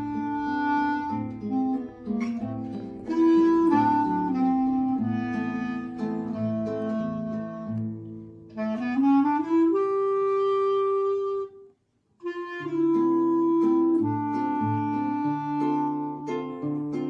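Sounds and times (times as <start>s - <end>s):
acoustic guitar: 0.0s - 17.0s
clarinet: 0.0s - 17.0s.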